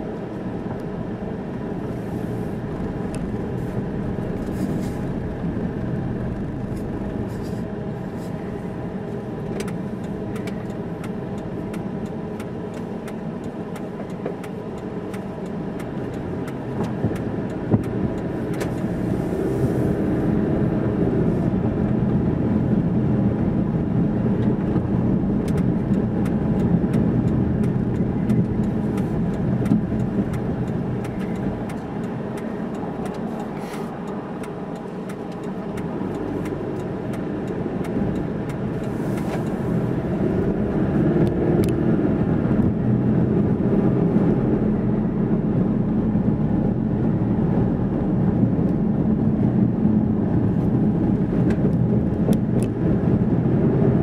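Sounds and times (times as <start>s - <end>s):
car engine: 0.0s - 54.0s
road noise: 0.0s - 54.0s.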